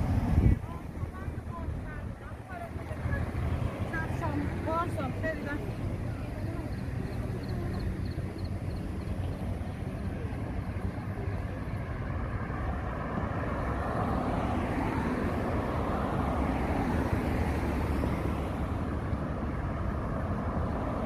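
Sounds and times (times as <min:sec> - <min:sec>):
cars passing: 0:00.0 - 0:21.0.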